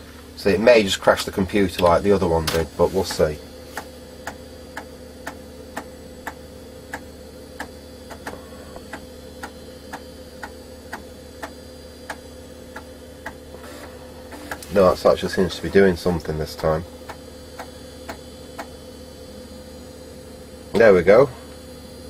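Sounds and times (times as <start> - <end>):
computer fan hum: 0.0 - 22.0.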